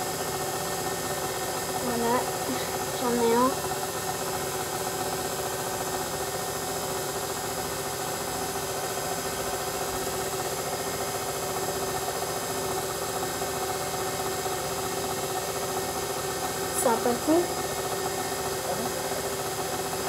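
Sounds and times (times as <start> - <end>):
electric mixer humming: 0.0 - 20.0.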